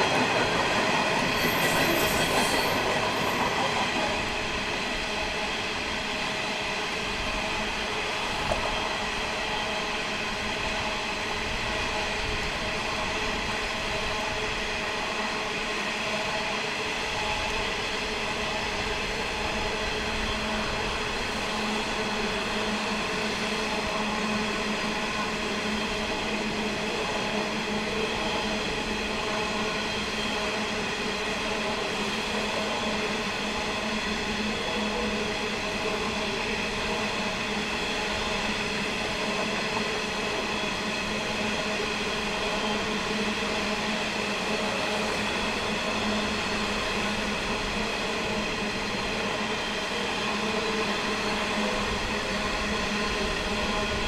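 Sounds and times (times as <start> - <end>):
diesel train engine running: 0.0 - 54.0.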